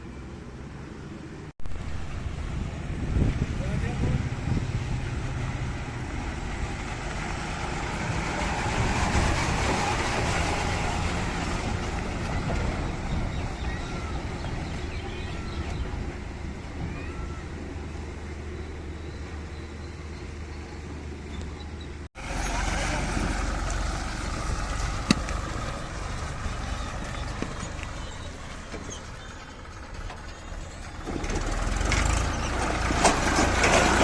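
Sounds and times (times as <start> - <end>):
diesel machinery engine running: 1.7 - 34.0.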